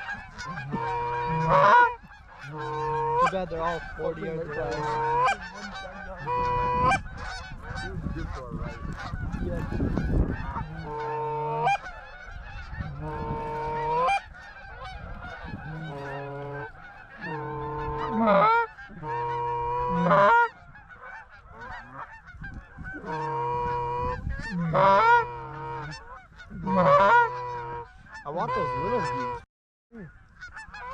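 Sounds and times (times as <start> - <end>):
geese honking: 0.0 - 30.9.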